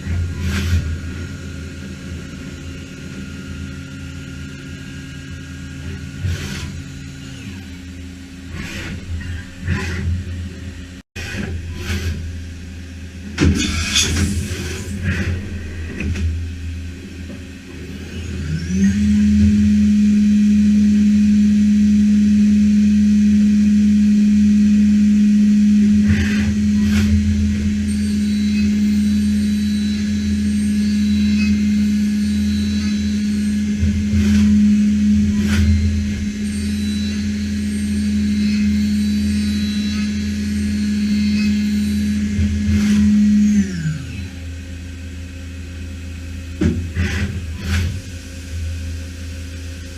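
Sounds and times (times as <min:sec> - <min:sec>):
machine low hum: 0:00.0 - 0:49.9.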